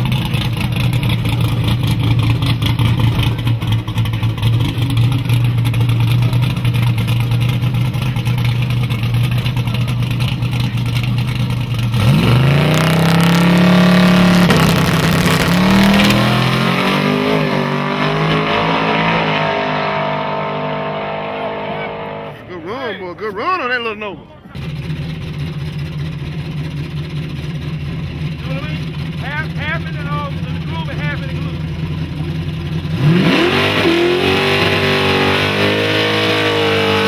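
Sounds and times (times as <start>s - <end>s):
drag car engine revving: 0.0s - 23.8s, 24.4s - 37.0s.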